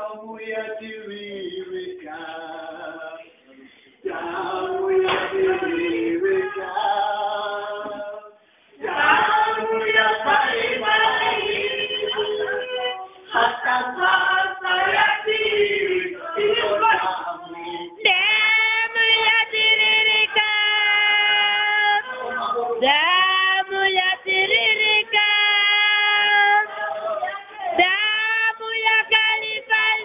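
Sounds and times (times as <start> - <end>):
congregation singing: 0.0 - 30.0.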